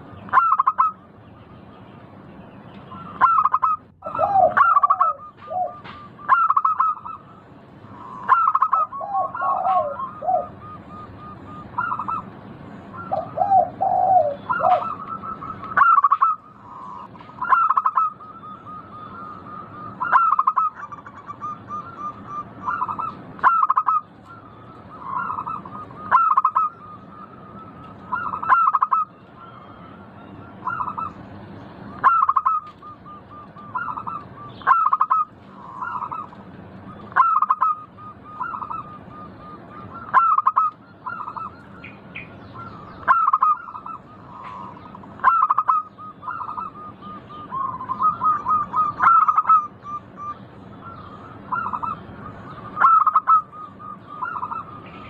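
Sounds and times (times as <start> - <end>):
dove cooing song: 0.0 - 1.6, 2.8 - 55.0.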